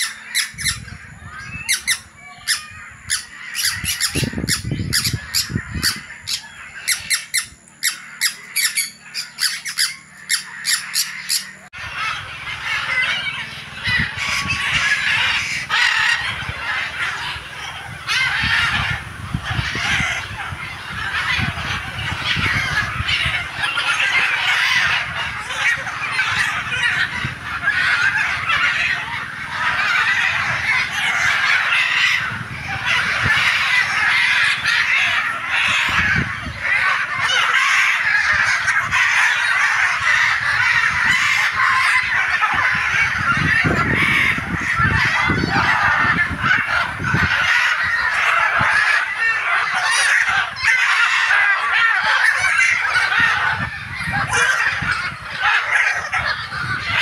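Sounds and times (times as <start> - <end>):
din of many birds calling: 0.0 - 57.0
parrots squawking: 0.0 - 57.0.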